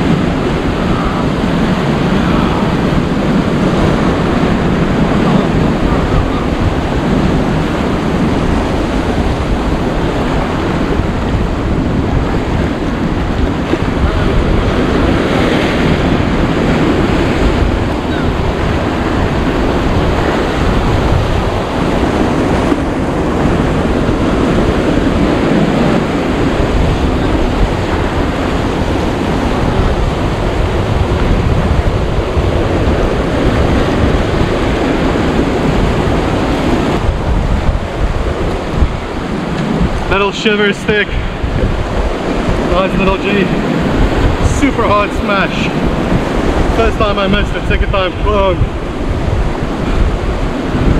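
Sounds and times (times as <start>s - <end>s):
surf crashing over rocks: 0.0s - 50.9s
wind buffeting microphone: 0.0s - 50.9s.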